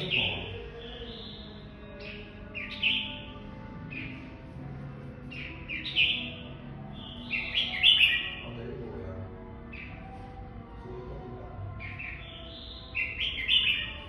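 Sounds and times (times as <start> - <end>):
bird singing warbled phrases: 0.0 - 10.2, 11.2 - 14.0.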